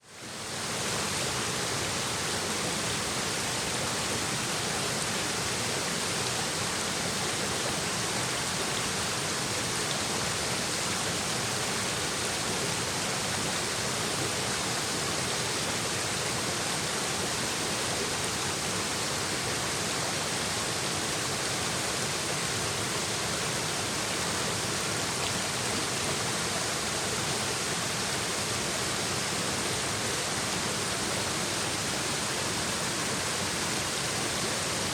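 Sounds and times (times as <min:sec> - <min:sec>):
stream babbling over rocks: 0:00.1 - 0:34.9.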